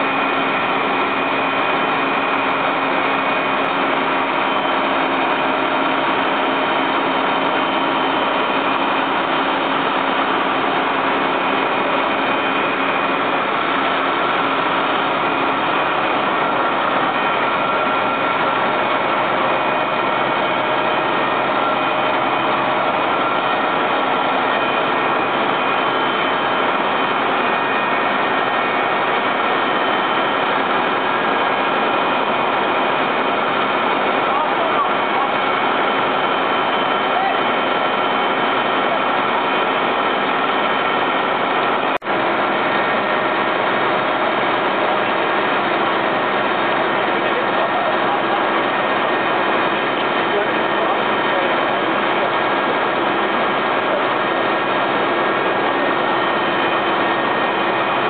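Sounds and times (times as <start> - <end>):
fire truck engines droning: 0.0 - 58.0.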